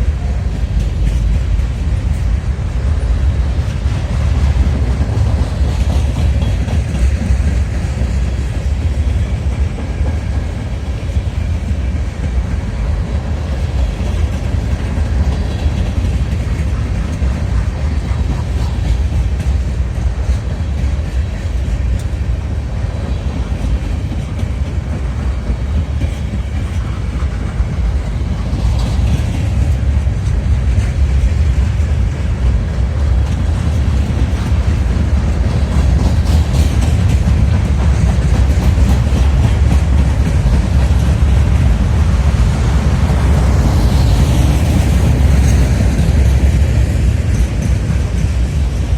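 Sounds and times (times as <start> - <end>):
freight train cars rolling: 0.0 - 48.9.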